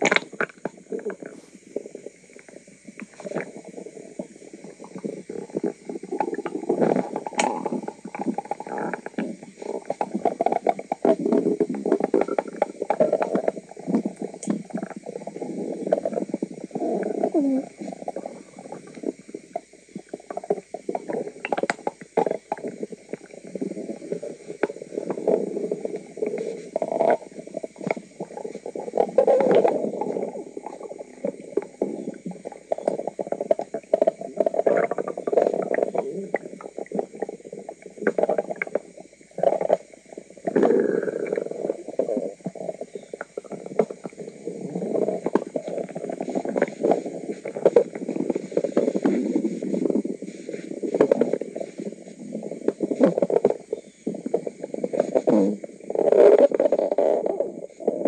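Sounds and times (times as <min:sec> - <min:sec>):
stomach gurgling: 0:00.0 - 0:58.0.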